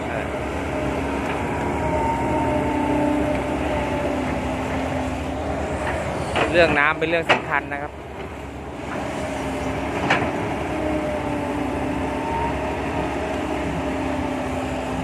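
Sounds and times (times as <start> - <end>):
excavator engine and hydraulic drone: 0.0 - 15.0.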